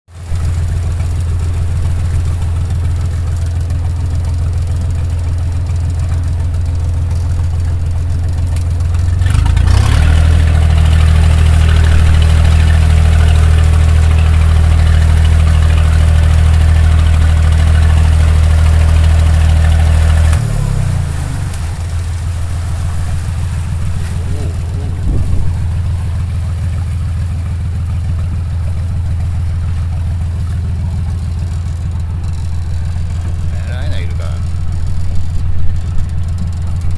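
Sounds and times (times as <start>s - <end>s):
boat engine running: 0.1s - 36.9s.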